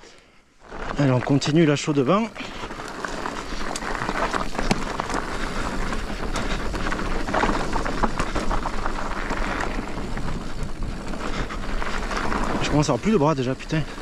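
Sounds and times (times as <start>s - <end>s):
tyres on dirt: 0.0s - 14.0s
bike rattling and knocking: 0.6s - 14.0s.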